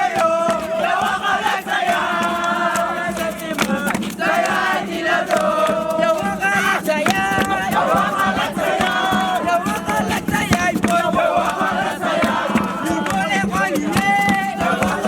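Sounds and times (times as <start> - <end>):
group chanting and singing: 0.0 - 15.0
people shouting: 0.0 - 15.0.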